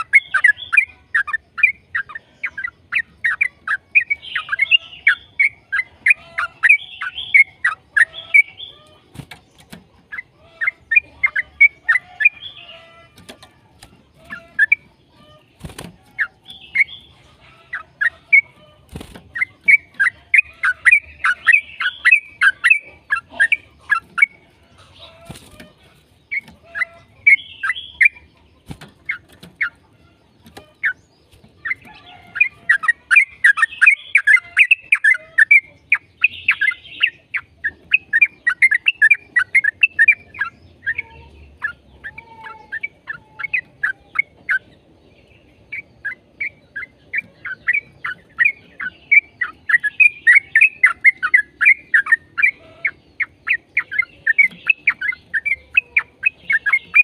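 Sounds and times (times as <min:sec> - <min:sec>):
bulbuls singing chattering runs: 0:00.0 - 0:57.0.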